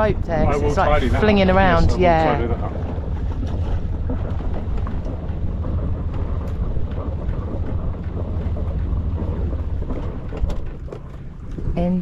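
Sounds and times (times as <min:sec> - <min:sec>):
boat engine rumbling: 0:00.0 - 0:12.0
wind buffeting microphone: 0:00.0 - 0:12.0.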